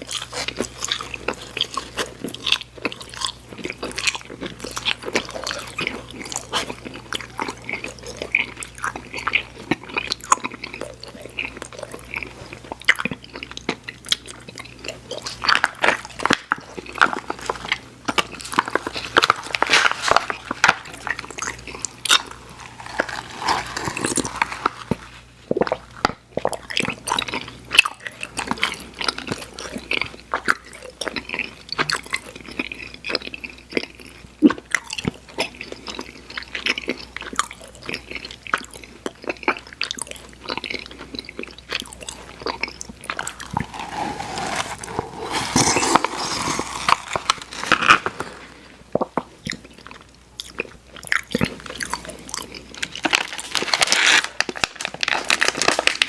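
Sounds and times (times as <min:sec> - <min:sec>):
chewing sticky candy: 0:00.0 - 0:56.0.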